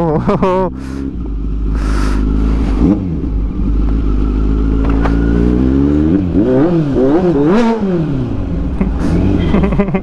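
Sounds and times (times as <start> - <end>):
motorcycle engine accelerating: 0.0 - 10.0
motorcycle engine revving: 0.3 - 10.0.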